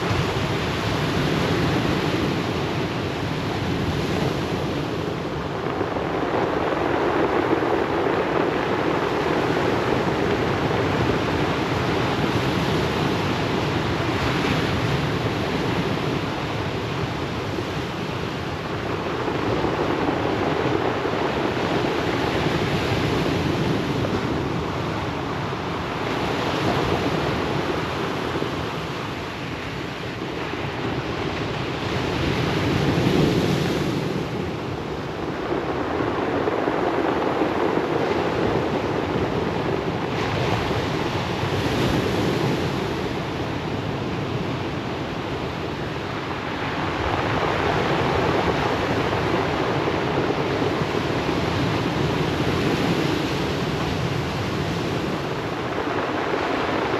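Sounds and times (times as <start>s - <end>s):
wind on microphone: 0.0s - 56.9s.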